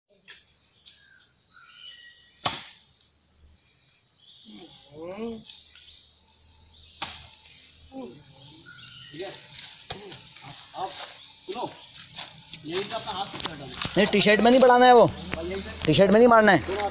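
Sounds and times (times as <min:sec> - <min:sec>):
forest insects droning: 0:00.1 - 0:16.9.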